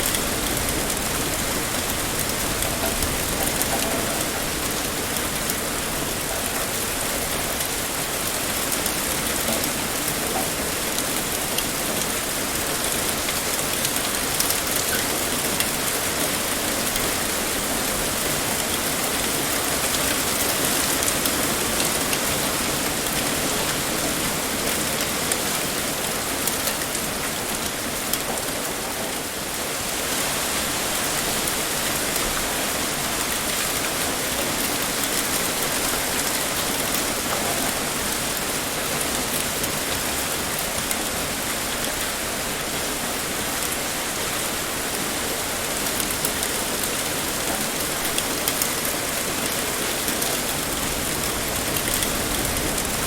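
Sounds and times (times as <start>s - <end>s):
raindrops ticking: 0.0s - 29.5s, 31.0s - 42.2s, 45.4s - 53.0s
heavy rain pouring: 0.0s - 53.0s.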